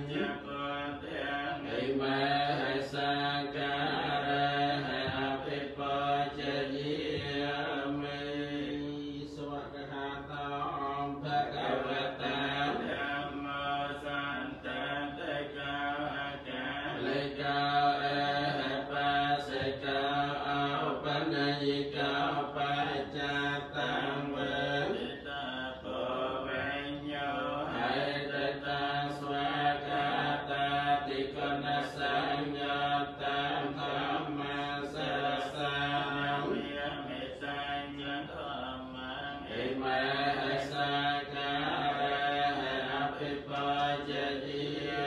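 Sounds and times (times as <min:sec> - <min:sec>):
monks chanting: 0:00.0 - 0:45.0.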